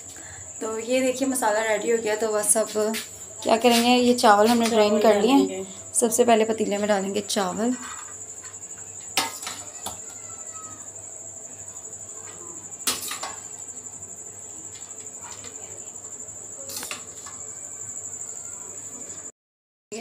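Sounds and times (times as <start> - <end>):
cricket chirring: 0.0 - 19.3.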